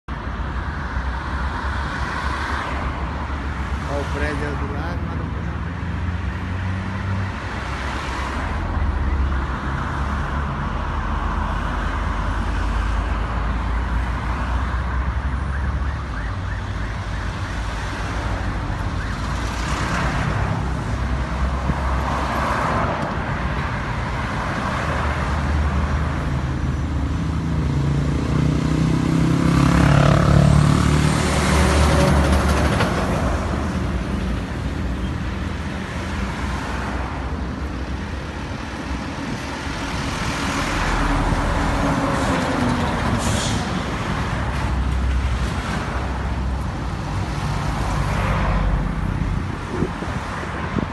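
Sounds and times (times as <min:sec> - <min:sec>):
road traffic rumble: 0:00.1 - 0:50.9.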